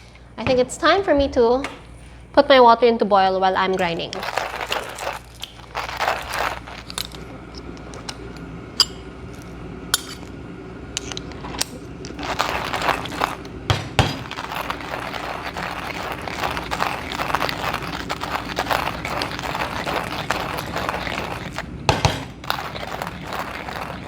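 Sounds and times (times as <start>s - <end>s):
hand coffee grinder crunching beans: 3.8s - 10.4s, 11.0s - 24.0s.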